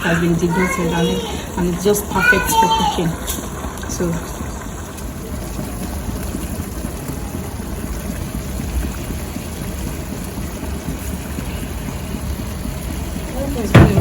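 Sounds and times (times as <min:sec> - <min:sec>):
stew bubbling and frying: 0:00.0 - 0:14.0.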